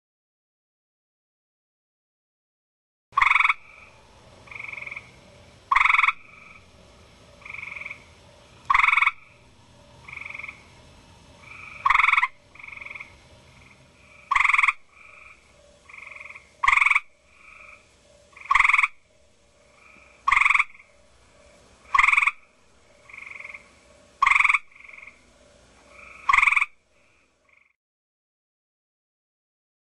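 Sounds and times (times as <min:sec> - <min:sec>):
treefrog trilled call: 0:03.2 - 0:10.8, 0:11.4 - 0:27.8
faint frog calls: 0:03.2 - 0:27.8.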